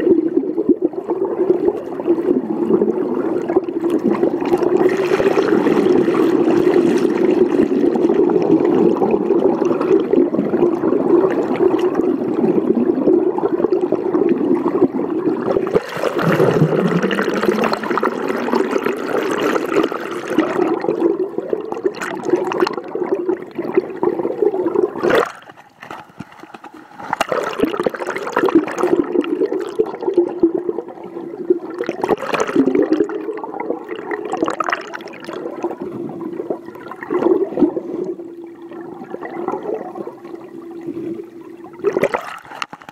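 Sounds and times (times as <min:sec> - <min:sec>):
underwater rushing water: 0:00.0 - 0:25.6, 0:26.2 - 0:42.9.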